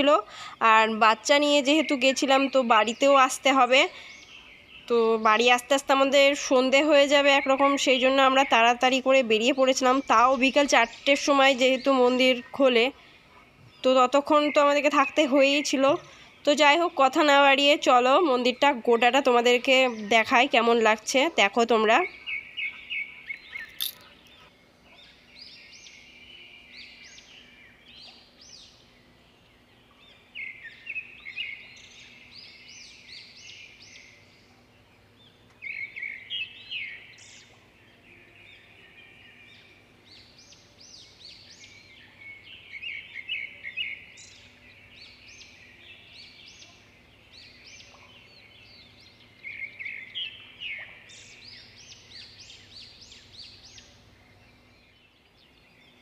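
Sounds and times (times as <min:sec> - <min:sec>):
birds chirping: 0:00.0 - 0:56.0
faint steady hum: 0:00.0 - 0:56.0.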